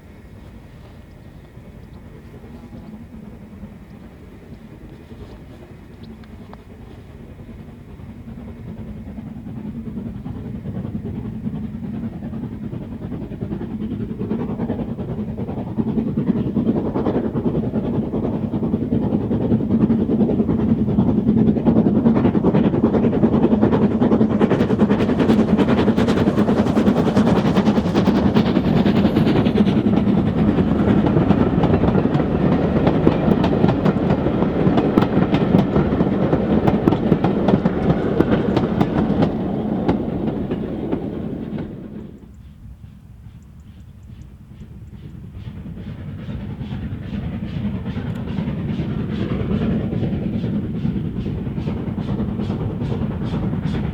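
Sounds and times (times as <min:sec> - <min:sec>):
steam train passing: 0:00.0 - 0:53.9.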